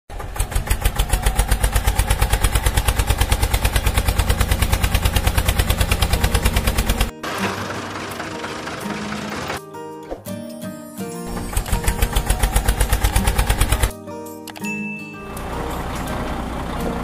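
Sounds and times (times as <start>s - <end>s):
engine chugging: 0.1s - 9.6s, 11.3s - 13.9s, 15.2s - 17.0s.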